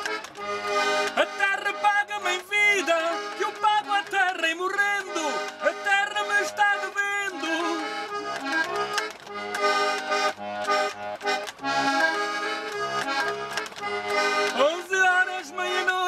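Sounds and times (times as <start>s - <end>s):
accordion folk tune: 0.0s - 16.0s.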